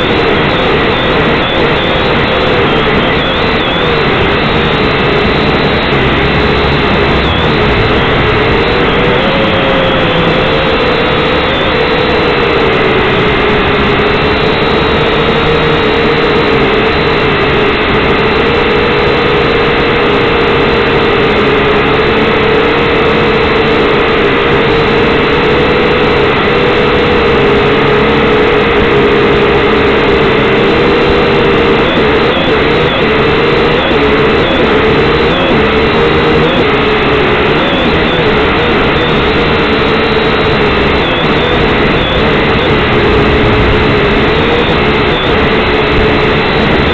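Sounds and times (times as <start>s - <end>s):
drone motors whining: 0.0s - 46.9s.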